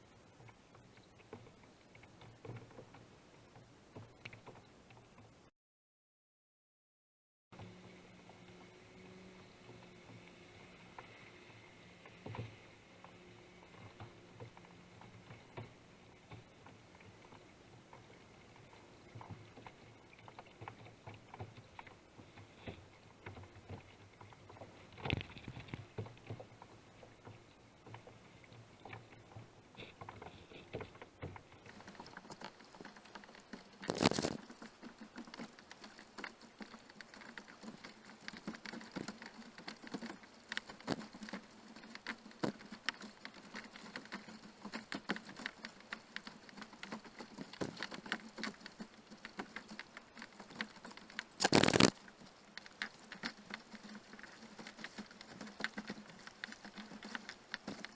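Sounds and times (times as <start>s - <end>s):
small water splashes: 7.6s - 57.9s.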